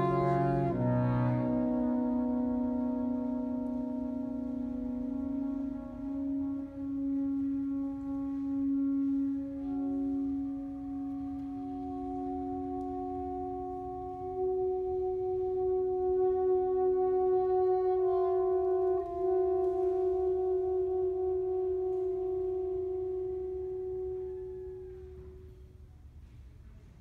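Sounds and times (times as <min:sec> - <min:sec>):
saxophone quartet playing held chords: 0:00.0 - 0:26.0.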